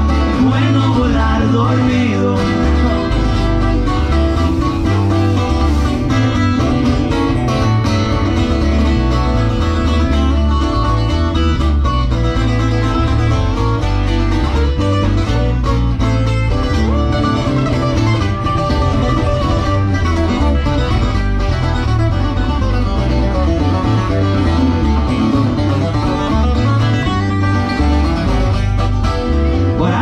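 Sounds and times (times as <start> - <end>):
band with plucked guitars: 0.0 - 30.0
deep driving bass line: 0.0 - 30.0.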